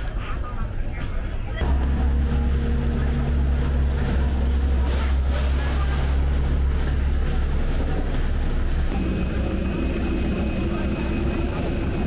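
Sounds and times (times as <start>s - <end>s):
bus low rumble: 0.0s - 12.0s
higher hum: 1.6s - 12.0s.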